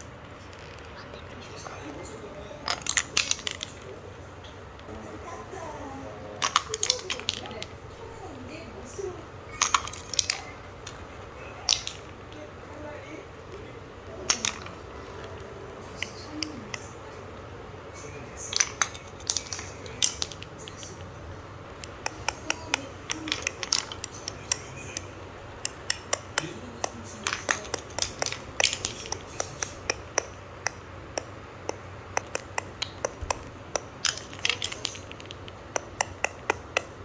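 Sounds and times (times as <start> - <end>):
marbles clicking on marble run: 2.6 - 3.9, 6.4 - 12.9, 14.1 - 37.0.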